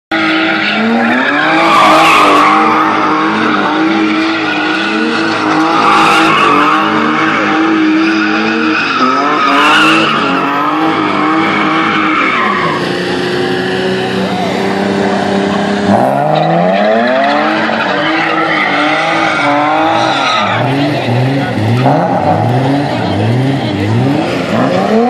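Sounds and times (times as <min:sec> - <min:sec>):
car engine at high revs: 0:00.1 - 0:25.0
tyres screeching: 0:00.2 - 0:25.0.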